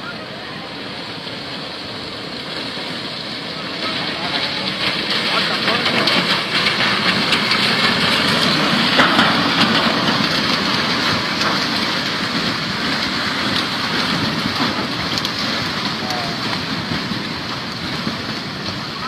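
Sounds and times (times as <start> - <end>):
flood water rushing: 0.0 - 19.0.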